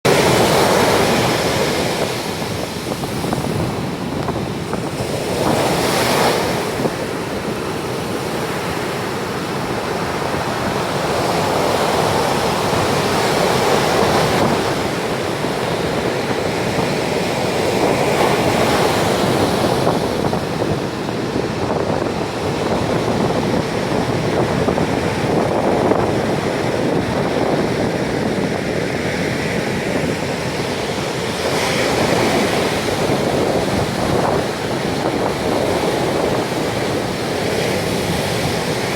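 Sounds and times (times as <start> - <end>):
sea waves breaking on shore: 0.0 - 38.9
wind buffeting microphone: 0.1 - 38.9.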